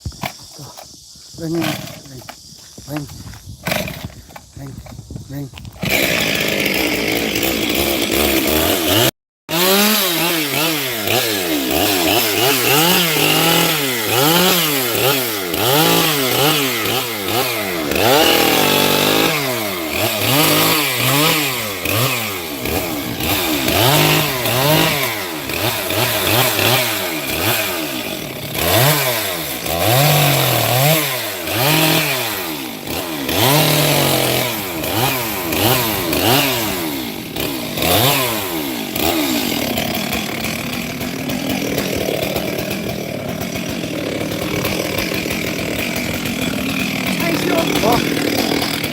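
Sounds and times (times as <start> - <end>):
chainsaw revving cutting wood: 0.1 - 48.9.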